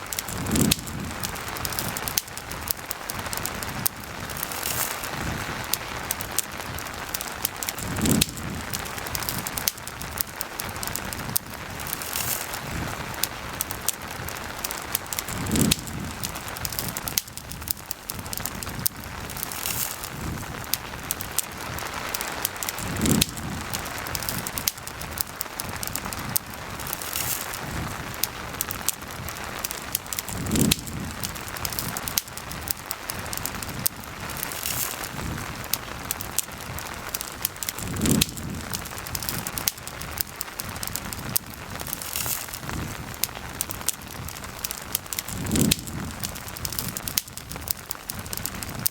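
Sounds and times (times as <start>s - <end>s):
campfire crackling and popping: 0.0s - 48.9s
steady rain: 0.0s - 48.9s.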